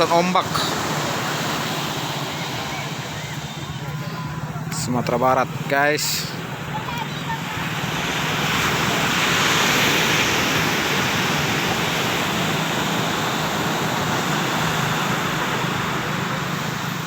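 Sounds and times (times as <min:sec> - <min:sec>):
heavy surf breaking on beach: 0:00.0 - 0:17.0.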